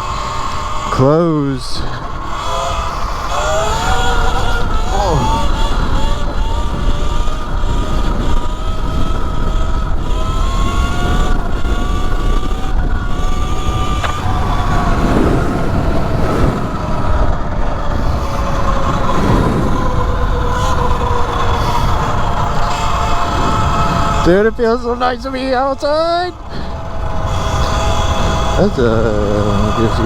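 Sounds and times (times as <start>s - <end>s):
electric motorbike motor whining: 0.0s - 30.0s
wind on microphone: 0.0s - 30.0s.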